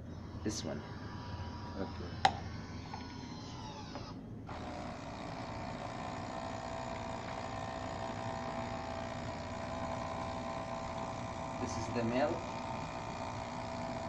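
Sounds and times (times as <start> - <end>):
coffee machine pump humming: 0.0 - 14.0.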